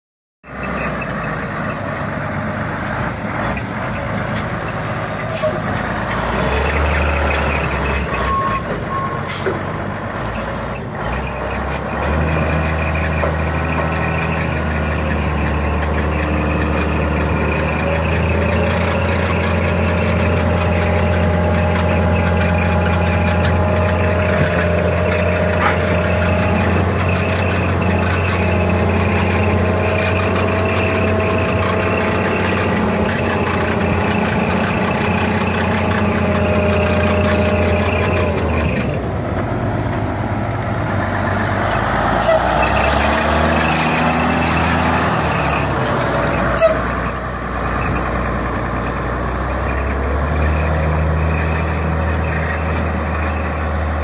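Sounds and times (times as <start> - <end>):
diesel truck engine running: 0.4 - 54.0.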